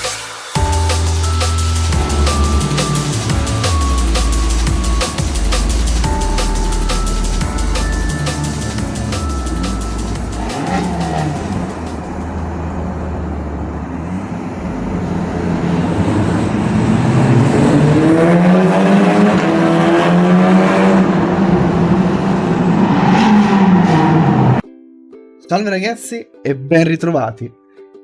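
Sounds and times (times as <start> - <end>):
car engine accelerating hard: 0.6 - 24.6.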